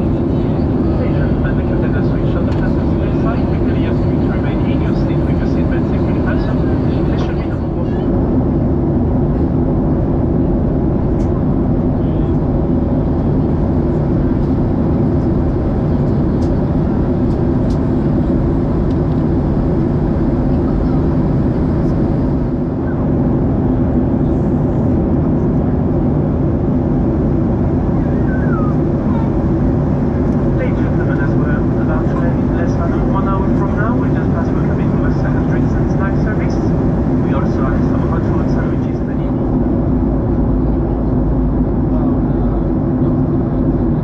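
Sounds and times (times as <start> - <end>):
jet airliner cabin noise: 0.0 - 44.0.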